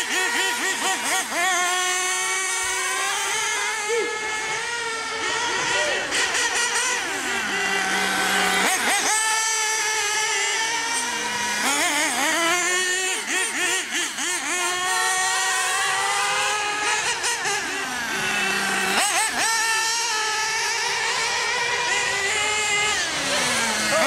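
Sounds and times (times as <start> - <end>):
small model engines revving: 0.0 - 24.0.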